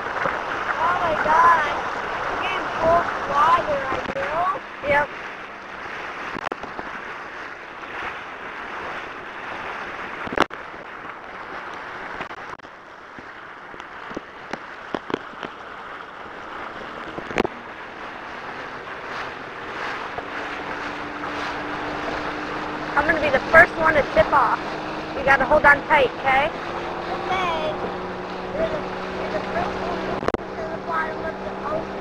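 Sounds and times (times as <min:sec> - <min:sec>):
tube slapping on water: 0:00.0 - 0:32.0
water rushing and hissing: 0:00.0 - 0:32.0
wind buffeting microphone: 0:00.0 - 0:32.0.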